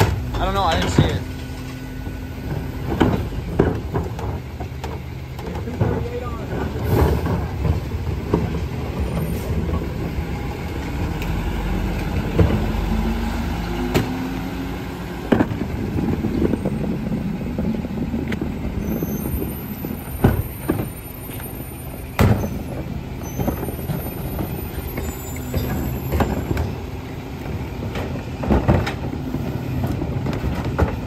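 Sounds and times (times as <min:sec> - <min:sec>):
carts banging against hopper: 0:00.0 - 0:31.0
truck engine and hydraulic drone: 0:00.0 - 0:31.0.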